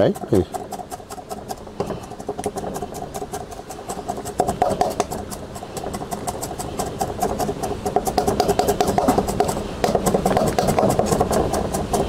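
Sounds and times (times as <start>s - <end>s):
knife chopping on wooden board: 0.0s - 12.0s.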